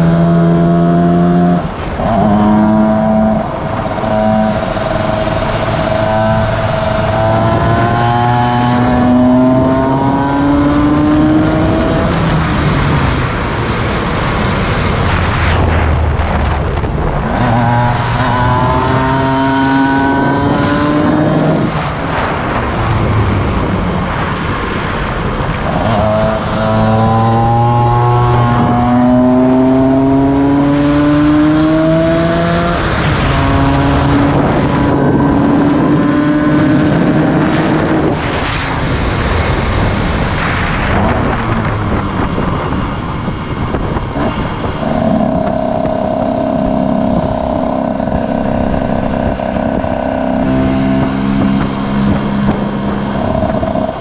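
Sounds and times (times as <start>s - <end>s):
motorcycle engine accelerating: 0.0s - 54.0s
wind rushing over microphone: 0.0s - 54.0s.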